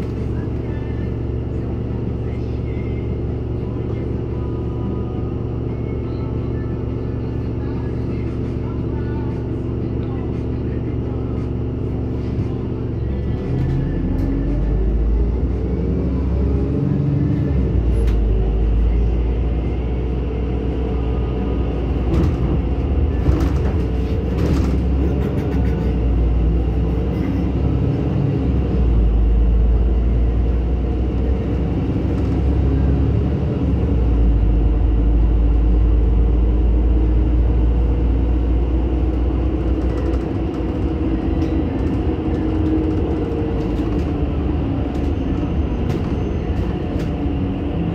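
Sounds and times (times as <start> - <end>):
bus engine and road rumble: 0.0 - 47.9.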